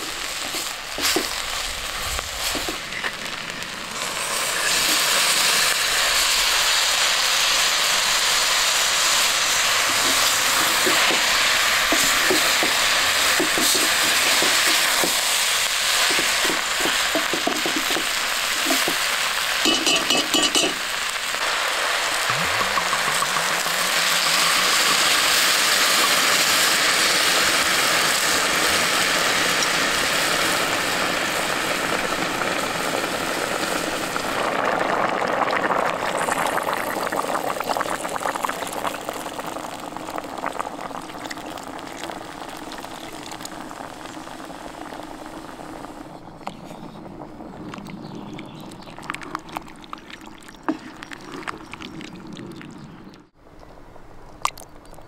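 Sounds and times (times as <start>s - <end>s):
loud sizzling: 0.0s - 46.3s
pot bubbling and simmering: 0.0s - 53.7s
wine pouring into hot pot: 3.3s - 53.2s.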